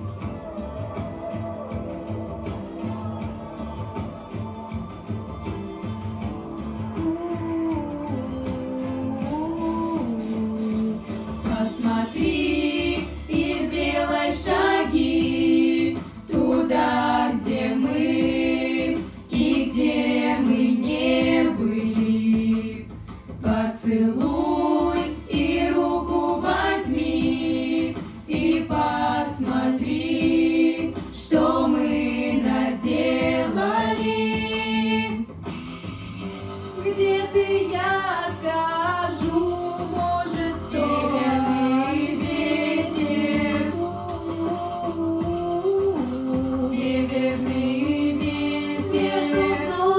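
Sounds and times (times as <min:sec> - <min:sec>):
girls singing together: 0:06.8 - 0:35.3, 0:36.8 - 0:49.9.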